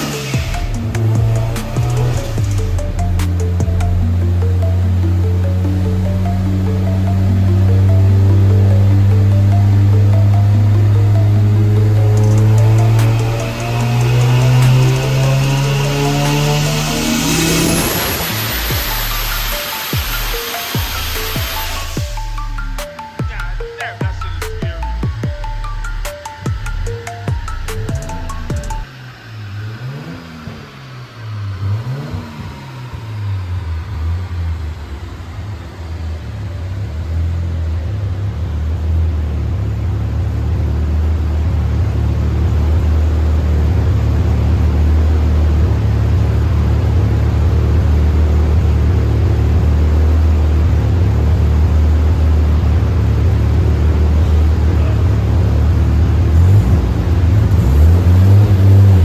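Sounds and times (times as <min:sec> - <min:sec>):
rotary engine revving: 0:00.0 - 0:22.8, 0:26.8 - 0:59.0.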